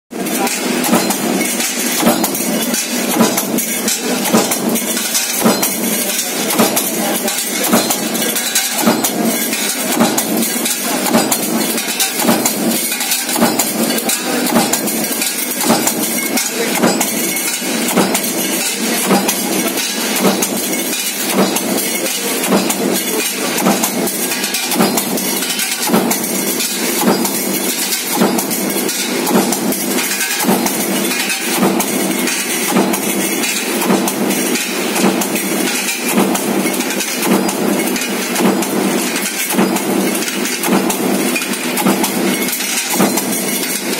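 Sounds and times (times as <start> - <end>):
machine din: 0.2 - 43.9.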